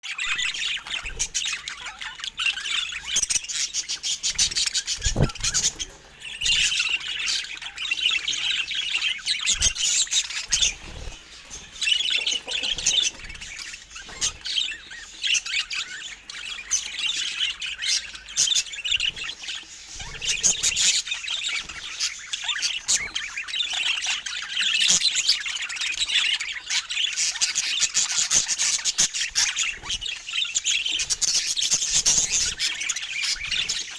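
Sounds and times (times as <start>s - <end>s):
budgies chattering and chirping: 0.0s - 33.9s.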